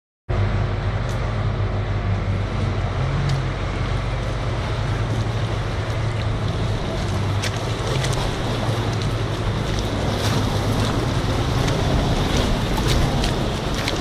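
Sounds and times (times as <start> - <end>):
truck engine at low revs: 0.3 - 14.0.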